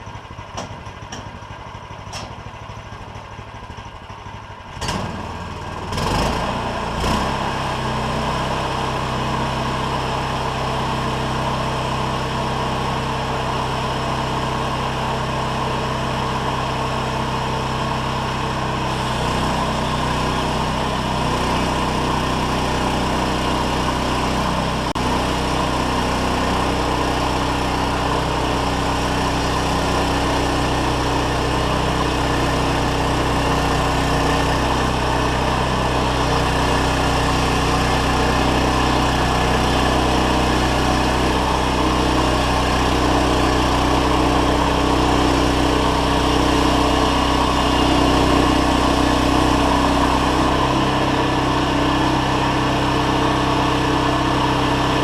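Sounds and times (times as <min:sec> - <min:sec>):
sawmill gasoline engine running: 0:00.0 - 0:55.0.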